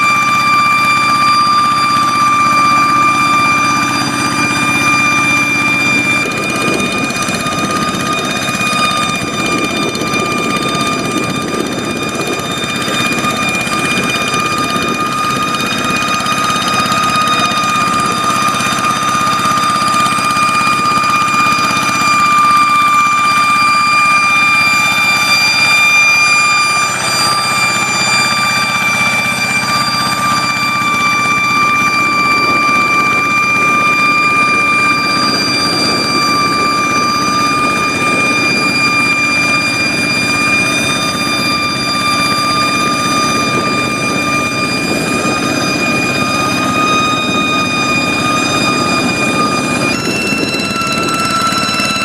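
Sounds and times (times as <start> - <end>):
high-pitched whine: 0.0 - 52.0
tractor engine running: 0.0 - 52.0.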